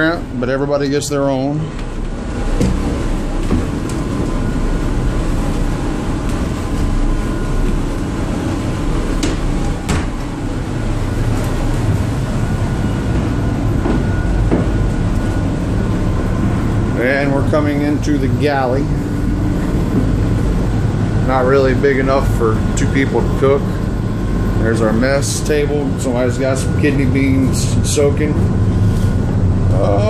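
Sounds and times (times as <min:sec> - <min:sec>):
boat engine rumble through hull: 0:00.0 - 0:30.0.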